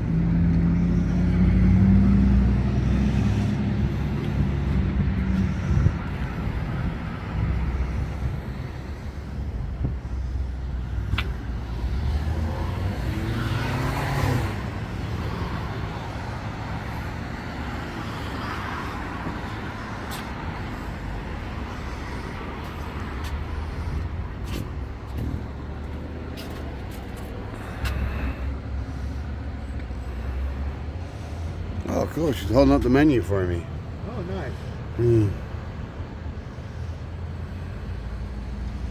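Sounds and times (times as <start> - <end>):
cars driving past: 0.0 - 38.9
low traffic rumble: 0.0 - 38.9.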